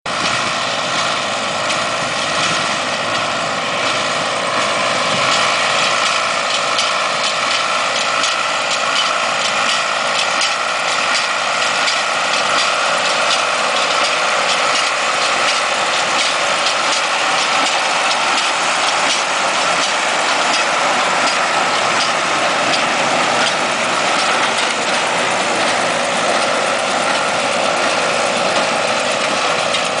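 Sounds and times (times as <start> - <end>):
tractor engine drone: 0.1 - 30.0
baler clattering: 5.1 - 30.0.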